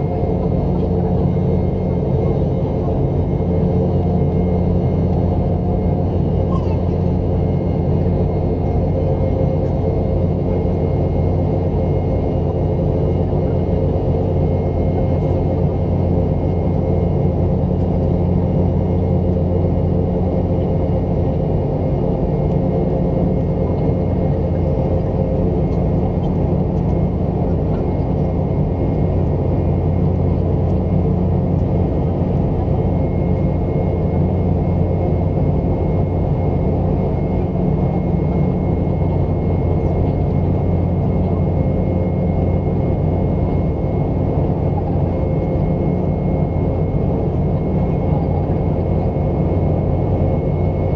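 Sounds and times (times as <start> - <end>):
jet engine and airflow rumble: 0.0 - 50.9.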